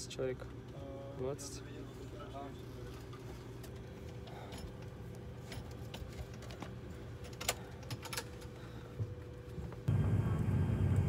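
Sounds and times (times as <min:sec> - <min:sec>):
airliner cabin drone: 0:00.0 - 0:11.0
faint steady whine: 0:00.0 - 0:11.0.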